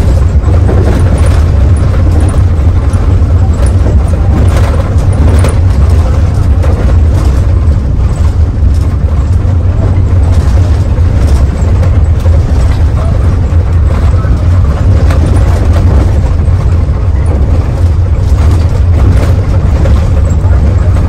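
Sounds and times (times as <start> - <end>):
bus diesel engine drone: 0.0 - 21.0
knocks and rattles: 0.0 - 21.0
road noise: 0.0 - 21.0.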